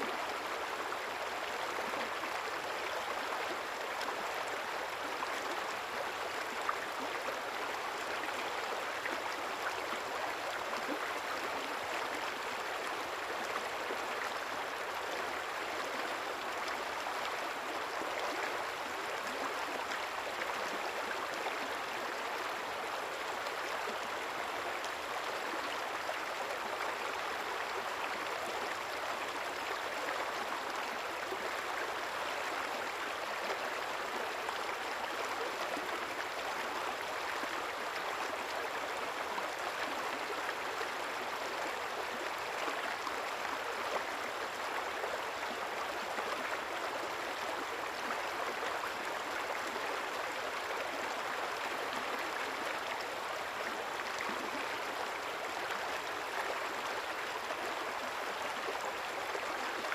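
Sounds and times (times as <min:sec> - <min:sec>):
small river flowing: 0:00.0 - 0:59.9.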